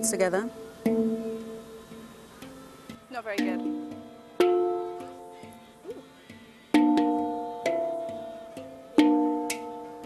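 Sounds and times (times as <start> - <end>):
handpan notes ringing: 0.0 - 6.0, 6.7 - 10.0.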